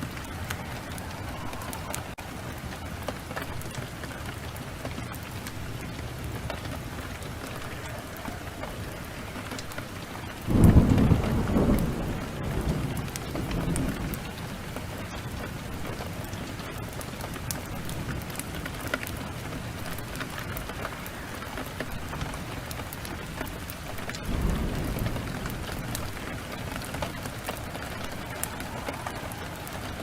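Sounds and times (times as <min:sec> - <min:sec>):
heavy rain: 0:00.0 - 0:30.0
thunder clap and rumble: 0:00.0 - 0:30.0.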